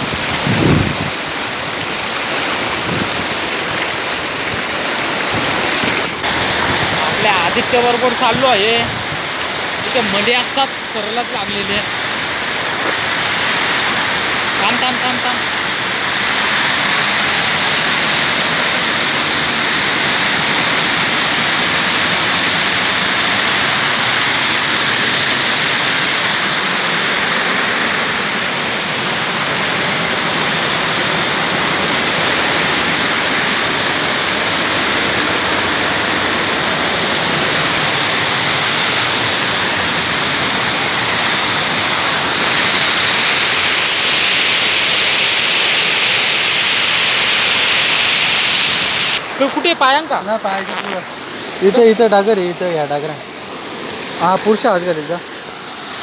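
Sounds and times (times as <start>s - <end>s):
water rushing over dam wall: 0.0s - 56.0s.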